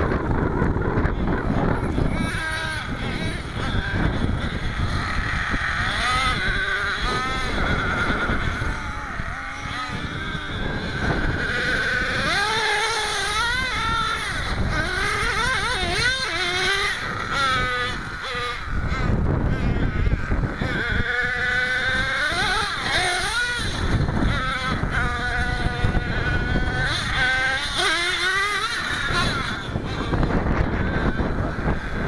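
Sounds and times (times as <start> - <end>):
small nitro engine revving: 0.0 - 32.0.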